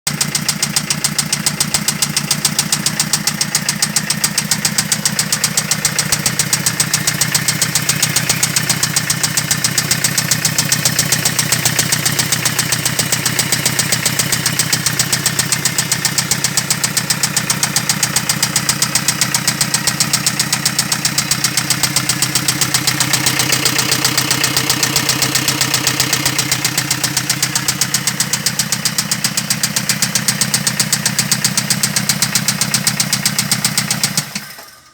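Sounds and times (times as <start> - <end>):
diesel engine idling with knock: 0.1 - 34.9.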